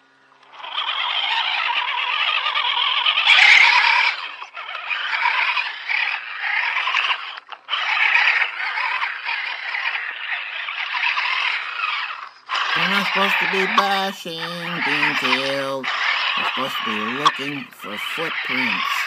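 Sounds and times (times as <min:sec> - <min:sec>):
electric motor and gears whining: 0:00.0 - 0:19.0.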